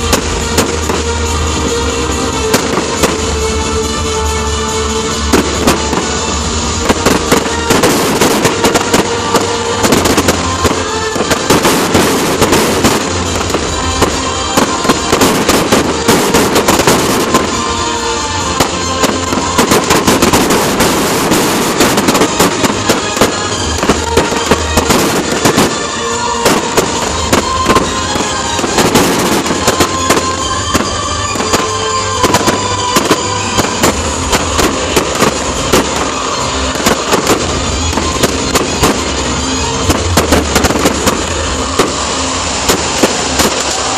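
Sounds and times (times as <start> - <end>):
fireworks bursts and crackling: 0.0 - 43.9
music playing: 0.0 - 43.9.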